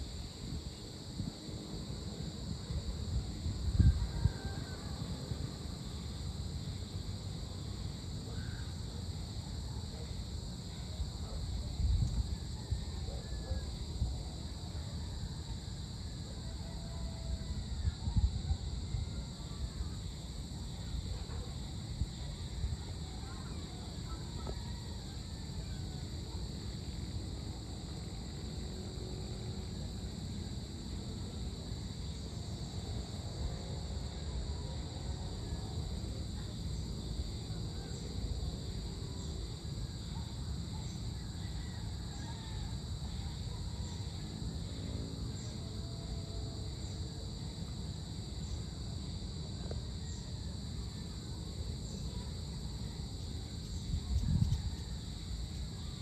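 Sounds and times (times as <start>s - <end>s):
high insect chorus: 0.0s - 56.0s.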